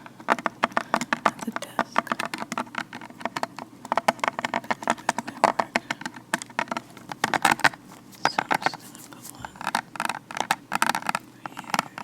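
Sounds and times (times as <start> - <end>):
gloved fingers tapping and crinkling: 0.0 - 12.0.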